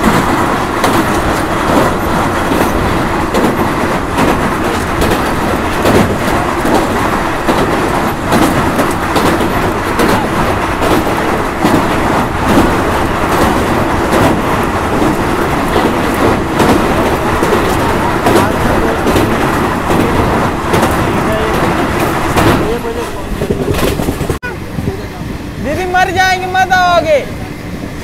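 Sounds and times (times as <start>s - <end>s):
wheels clanking over rail joints: 0.0s - 27.4s
train rumbling over a steel bridge: 0.0s - 28.0s.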